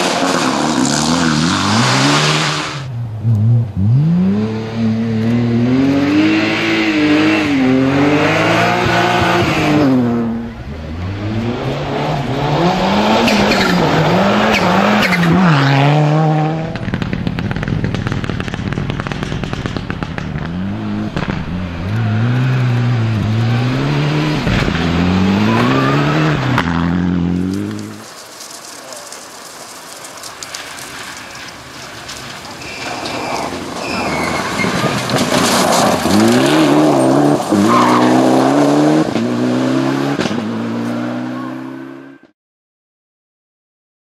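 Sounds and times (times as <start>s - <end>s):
rally car engines revving: 0.0s - 42.3s.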